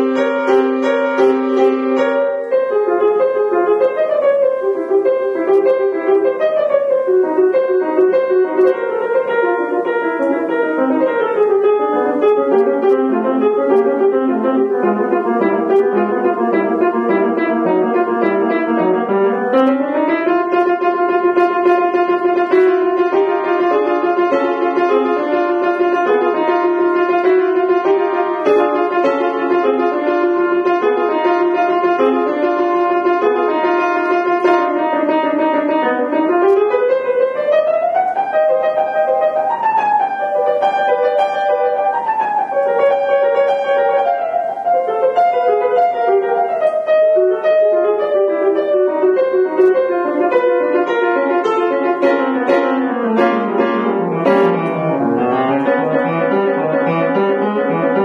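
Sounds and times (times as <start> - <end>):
classical grand piano solo: 0.0 - 58.0.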